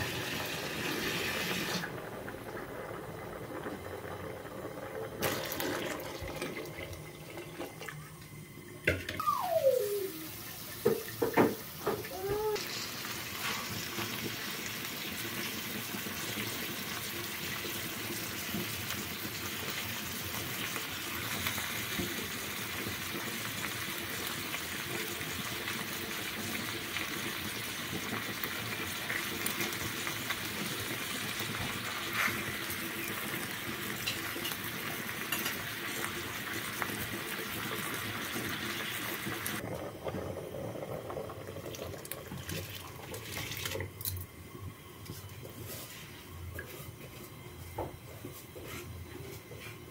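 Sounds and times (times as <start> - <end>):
food cooking hiss: 0.0 - 7.3, 9.4 - 49.9
water pouring into pot: 0.0 - 8.2, 9.7 - 44.3.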